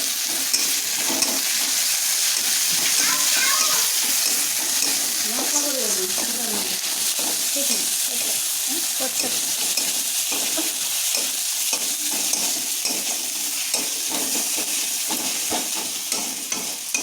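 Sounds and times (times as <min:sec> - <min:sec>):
food sizzling in a pan: 0:00.0 - 0:17.0
spoon scraping a pan: 0:00.0 - 0:17.0.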